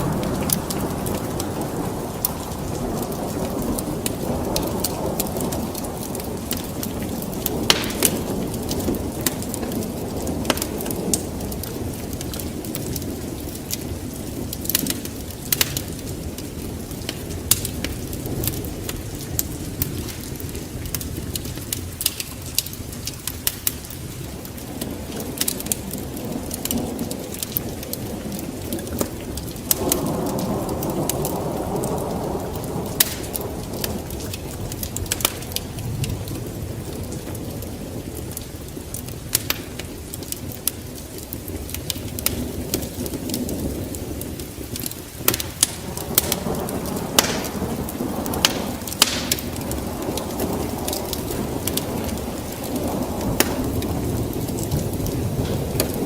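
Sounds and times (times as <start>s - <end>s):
rolling thunder rumble: 0.0s - 56.0s
sharp crackles: 0.0s - 56.0s
steady rain: 0.0s - 56.0s.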